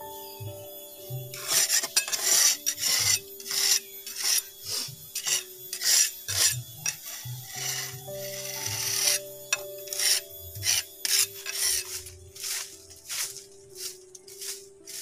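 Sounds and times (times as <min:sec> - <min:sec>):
soft background music: 0:00.0 - 0:15.0
metal blade scraping stone: 0:01.4 - 0:15.0.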